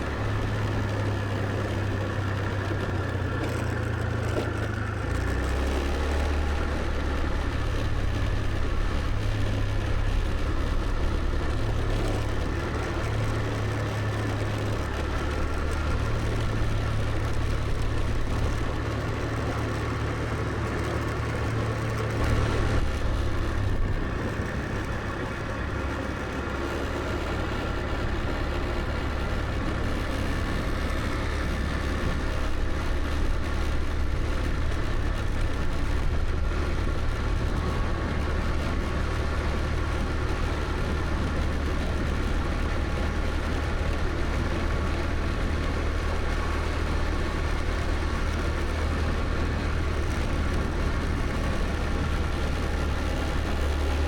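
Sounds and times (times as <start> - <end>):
road and wind noise: 0.0 - 54.0
scooter engine running: 0.0 - 54.0.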